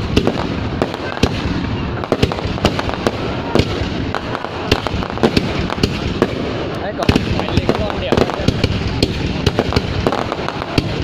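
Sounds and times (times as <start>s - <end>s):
fireworks cracks and pops: 0.0s - 11.0s
fireworks rumble: 0.0s - 11.0s.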